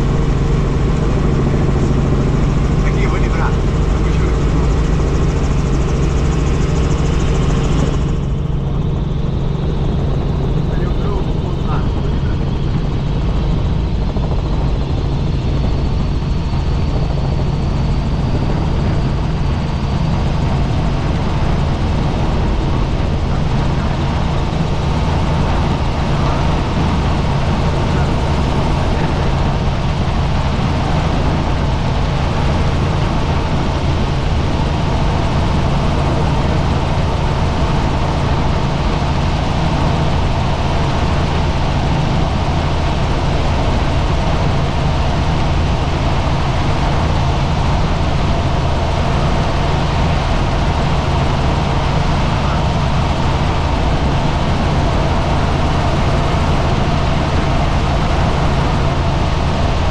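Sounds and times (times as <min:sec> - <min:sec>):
helicopter drone: 0:00.0 - 0:59.9.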